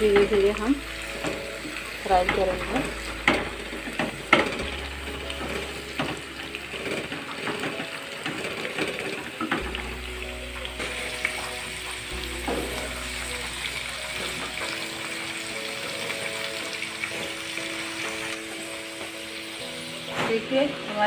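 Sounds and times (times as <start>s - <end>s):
food frying in hot oil: 0.0s - 21.0s.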